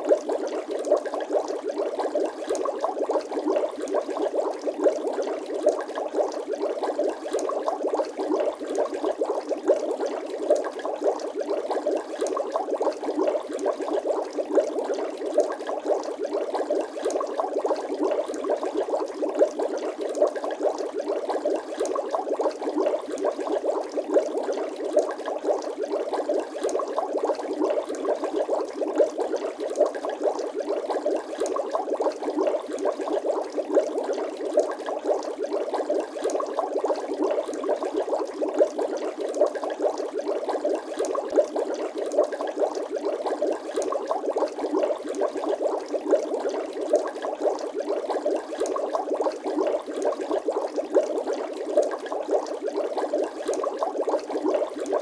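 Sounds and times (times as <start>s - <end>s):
water bubbling: 0.0s - 55.0s.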